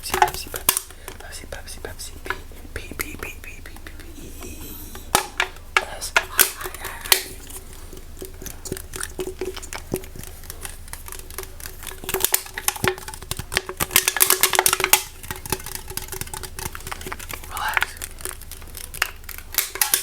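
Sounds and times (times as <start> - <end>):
tapping on hard objects: 0.0 - 1.2, 4.9 - 20.0.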